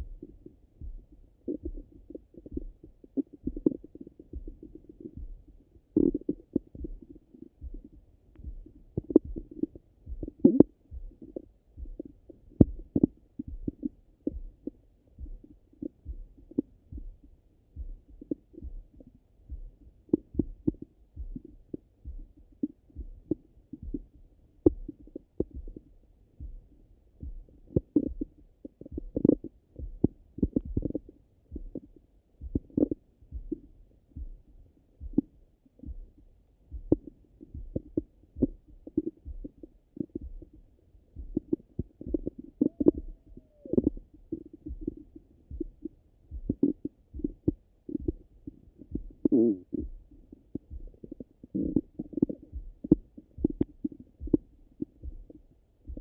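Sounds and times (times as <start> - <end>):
muffled heartbeat thumps: 0.0 - 56.0.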